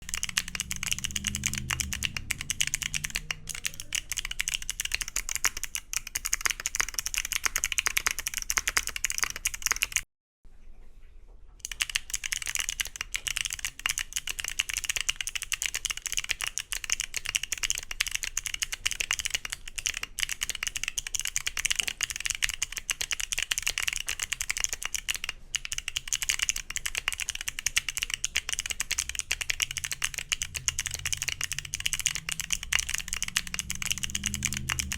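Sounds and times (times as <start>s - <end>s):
fast mechanical keyboard typing: 0.0s - 10.1s, 11.6s - 34.9s.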